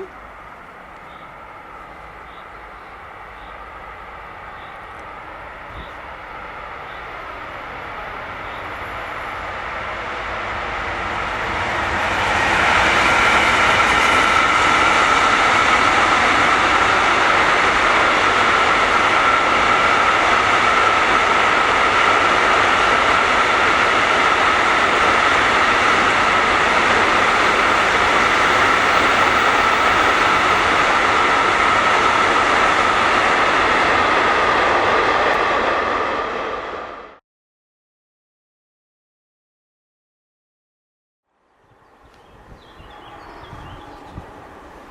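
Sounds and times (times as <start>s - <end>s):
train running past: 0.0s - 37.2s, 41.7s - 44.9s.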